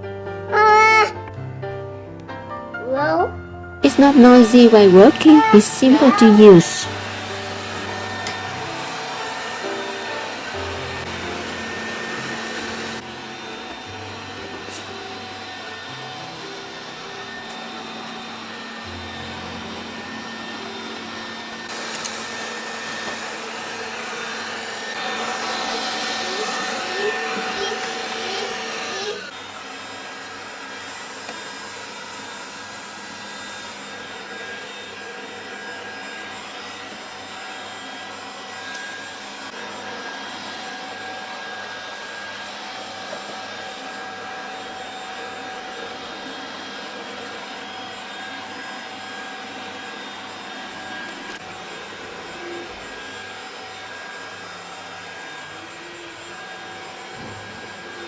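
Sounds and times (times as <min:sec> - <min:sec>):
robot vacuum cleaner humming: 0:03.8 - 0:58.0.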